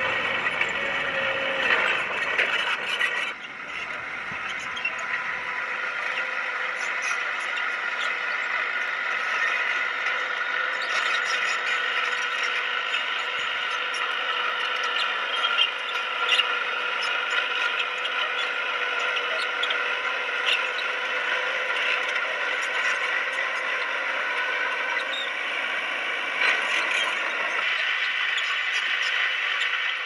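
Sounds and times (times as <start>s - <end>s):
bulldozer engine drone: 0.0s - 30.0s.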